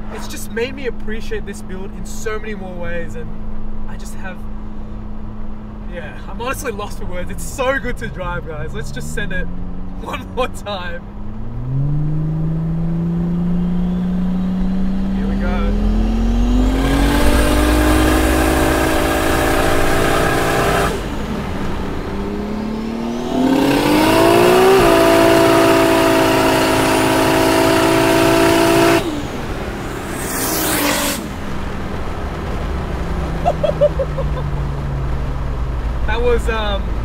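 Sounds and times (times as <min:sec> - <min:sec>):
car engine revving at full throttle: 0:00.0 - 0:37.0.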